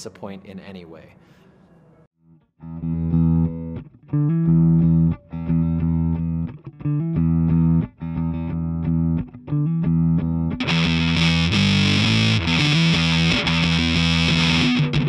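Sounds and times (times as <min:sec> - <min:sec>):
fuzzed electric guitar riff: 0:02.6 - 0:15.0.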